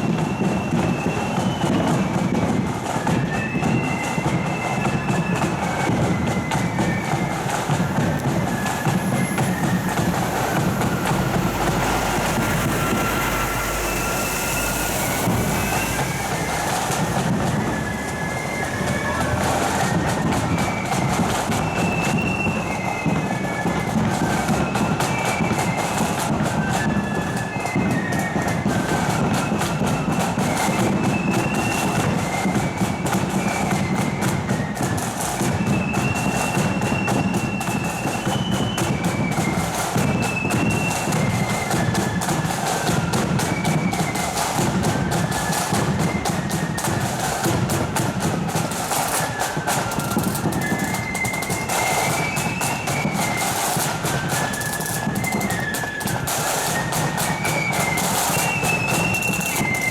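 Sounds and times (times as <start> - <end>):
flutes playing melody: 0.0 - 59.9
snare drum rolls: 0.0 - 59.9.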